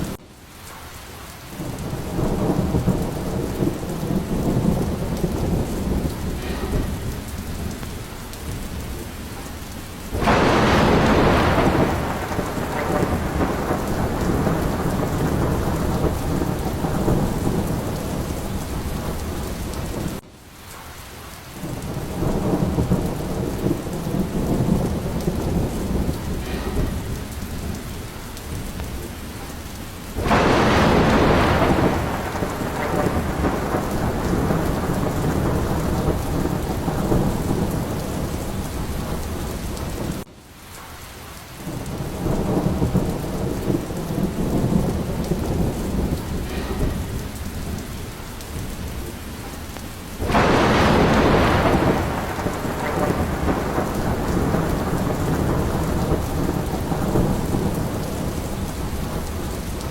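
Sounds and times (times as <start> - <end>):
heavy rain: 0.0 - 59.9
rolling thunder: 1.5 - 20.2, 21.6 - 40.3, 41.6 - 59.9
loud thunderclap: 1.6 - 20.2, 21.6 - 40.3, 41.7 - 59.9.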